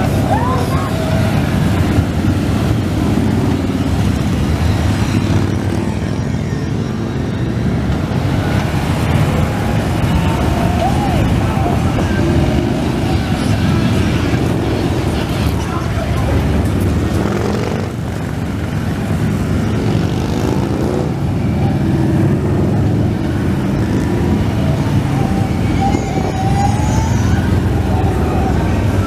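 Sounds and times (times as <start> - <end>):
motorcycles riding past: 0.0 - 29.0.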